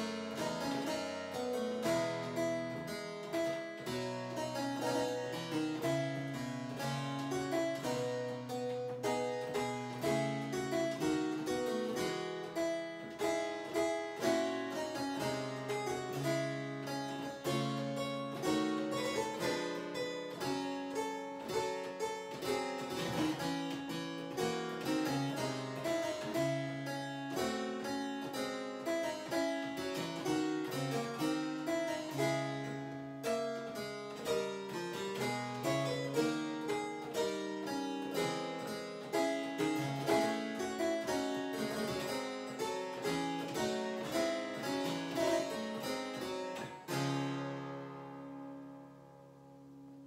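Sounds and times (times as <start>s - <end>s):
early keyboard fugue: 0.0s - 50.0s.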